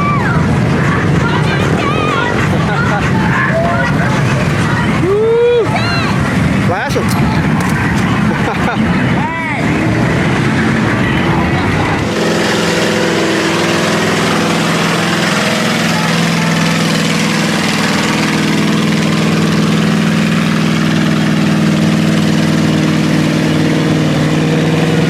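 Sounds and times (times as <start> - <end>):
loud noisy background: 0.0 - 25.0
truck engine running: 0.0 - 25.0.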